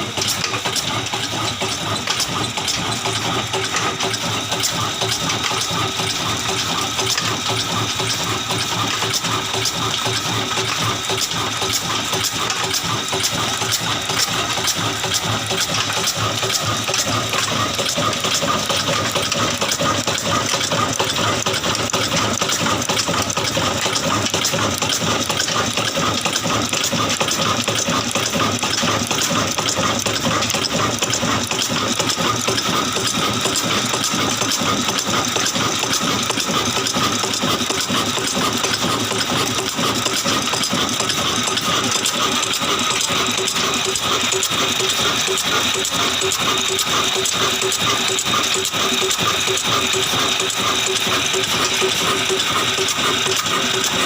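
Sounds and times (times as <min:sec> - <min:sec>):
diesel engine running: 0:00.0 - 0:54.0
fast metallic clatter: 0:00.0 - 0:54.0.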